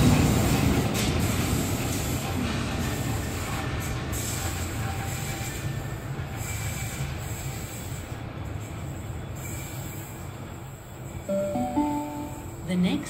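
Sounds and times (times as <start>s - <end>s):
train engine and wheels rumbling: 0.0s - 13.0s.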